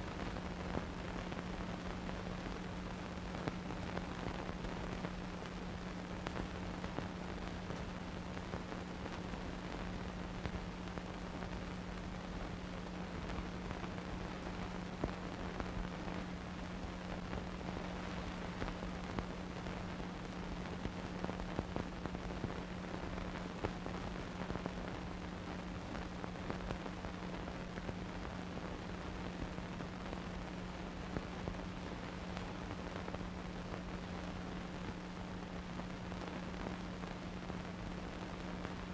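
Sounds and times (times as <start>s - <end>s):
constant low hum: 0.0s - 38.9s
crackles and pops: 0.0s - 38.9s
steady hiss: 0.0s - 38.9s.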